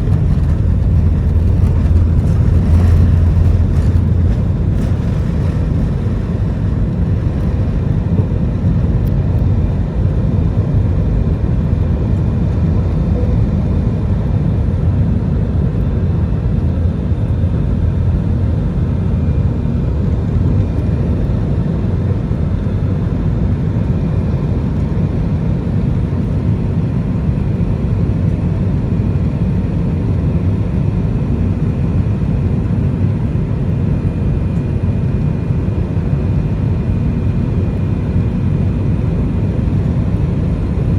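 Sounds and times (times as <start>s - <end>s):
faint engine whine: 0.0s - 40.9s
jet engines rumbling at high thrust: 0.0s - 40.9s.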